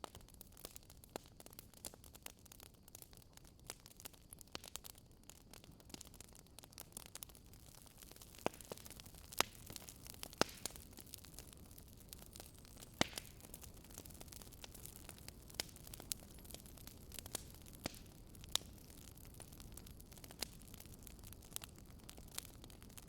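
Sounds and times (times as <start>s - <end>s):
campfire crackling: 0.0s - 23.0s
faint fire hiss: 0.0s - 23.0s.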